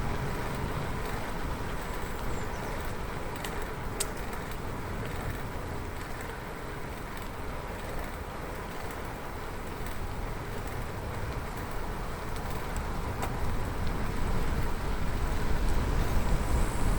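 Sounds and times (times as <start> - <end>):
bicycle rolling on a road: 0.0 - 16.9.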